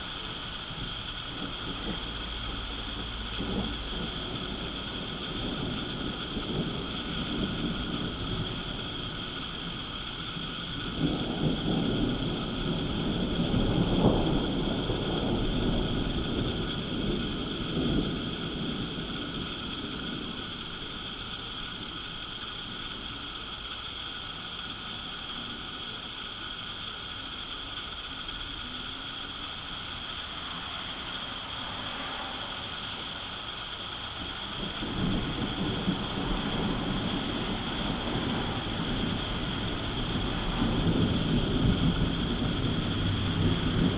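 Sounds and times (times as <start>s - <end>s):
thunder rumbling: 0.0s - 23.8s, 29.2s - 43.9s.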